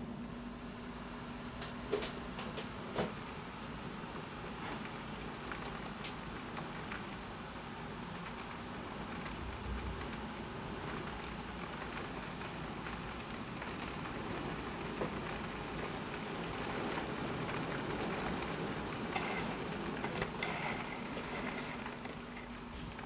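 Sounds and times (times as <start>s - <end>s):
heavy rain falling: 3.9s - 23.0s.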